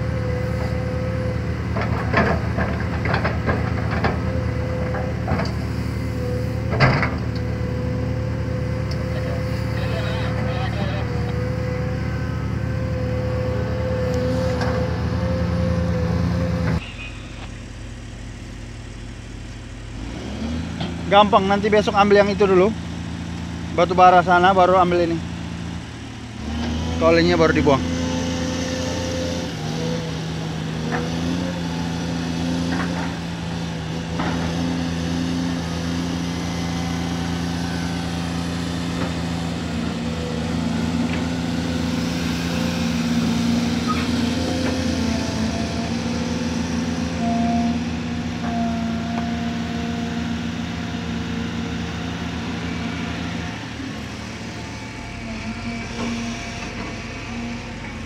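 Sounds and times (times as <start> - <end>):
excavator diesel engine droning: 0.0 - 58.0.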